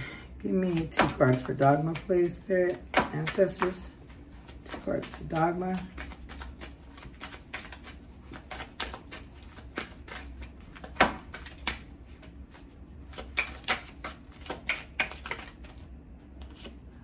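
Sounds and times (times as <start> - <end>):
cards being shuffled: 0.7 - 16.8.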